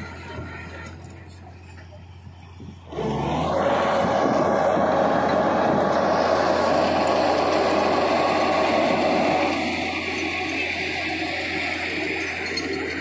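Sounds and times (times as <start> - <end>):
bulldozer diesel engine under load: 0.0 - 13.0.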